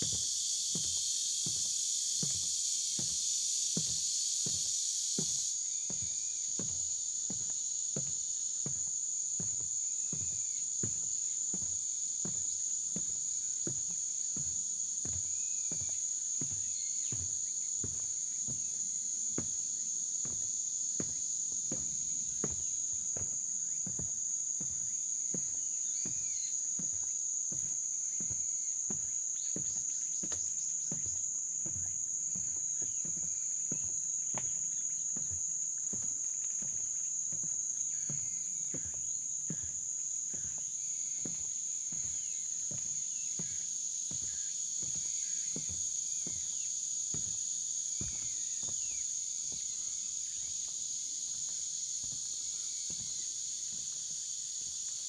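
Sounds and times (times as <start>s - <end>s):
high-pitched insect drone: 0.0s - 8.8s, 9.4s - 55.0s
footsteps on forest trail: 0.0s - 55.0s.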